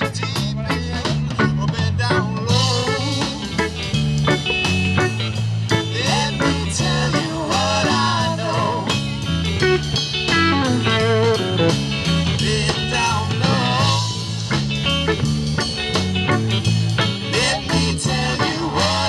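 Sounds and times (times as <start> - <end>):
bass line: 0.0 - 19.0
drums: 0.0 - 19.0
electric guitars: 0.0 - 19.0.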